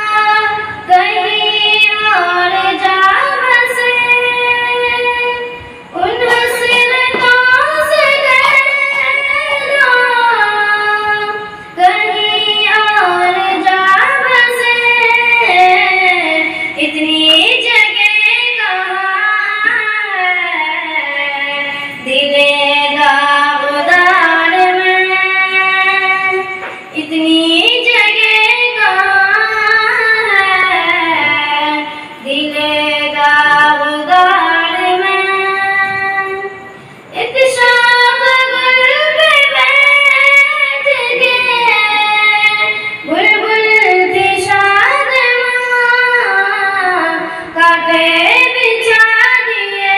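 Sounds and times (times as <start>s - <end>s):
girl singing devotional song: 0.0s - 49.9s.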